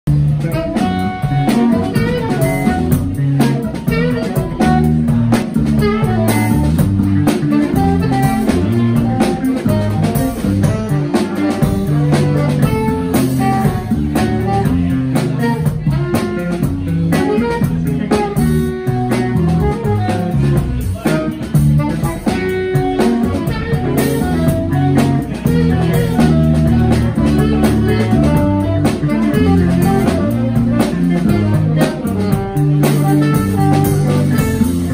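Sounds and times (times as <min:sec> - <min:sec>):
jazz trio playing: 0:00.0 - 0:34.9
saxophone melody: 0:00.1 - 0:34.9.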